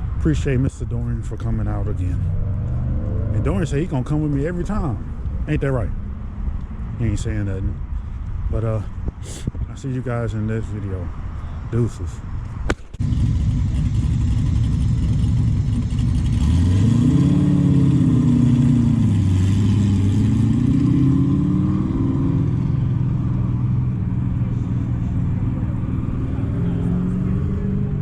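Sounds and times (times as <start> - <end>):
car engine revving: 1.0 - 8.9, 13.0 - 28.0.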